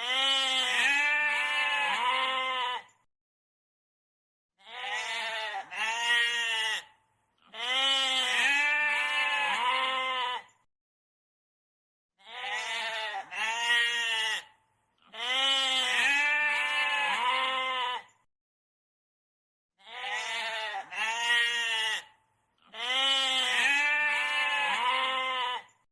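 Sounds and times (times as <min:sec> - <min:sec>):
goat bleating: 0:00.0 - 0:03.0, 0:04.6 - 0:10.6, 0:12.2 - 0:18.2, 0:19.8 - 0:25.8.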